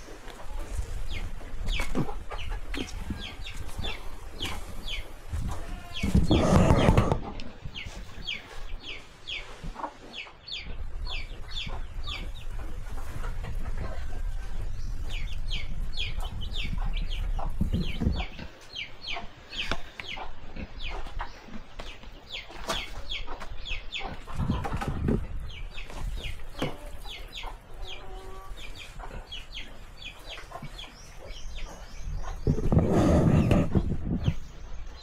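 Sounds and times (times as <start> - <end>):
chickens peeping: 0.0 - 35.0.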